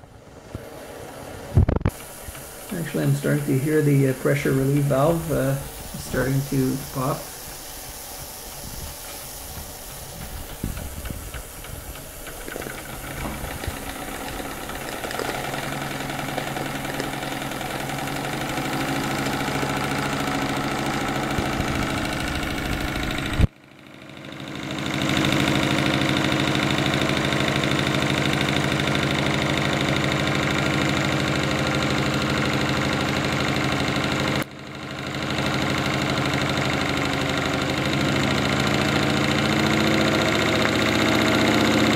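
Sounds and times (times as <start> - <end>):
steam engine running: 0.0 - 41.9.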